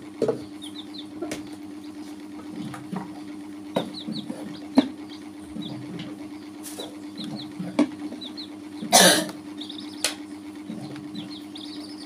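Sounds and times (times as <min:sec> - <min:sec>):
chicks peeping softly: 0:00.0 - 0:12.0
steady low hum: 0:00.0 - 0:12.0.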